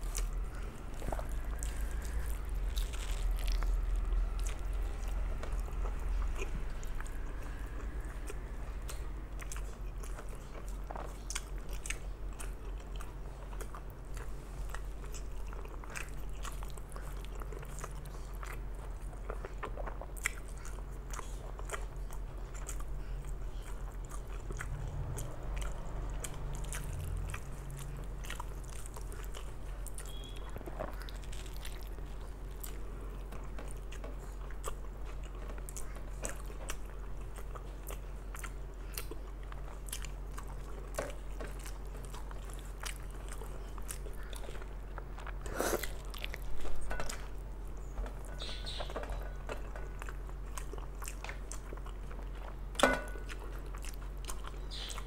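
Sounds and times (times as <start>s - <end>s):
low steady hum: 0.0s - 55.0s
person chewing food: 0.0s - 55.0s.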